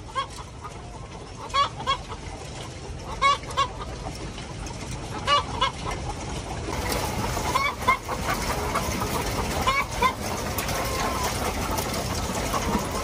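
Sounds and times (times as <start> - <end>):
hens cackling: 0.0 - 13.0.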